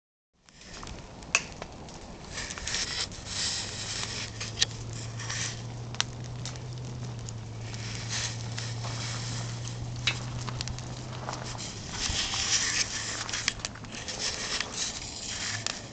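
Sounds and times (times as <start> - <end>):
fire crackling and hissing: 0.4 - 15.9
fire popping: 0.4 - 15.9
low hum: 1.7 - 15.9.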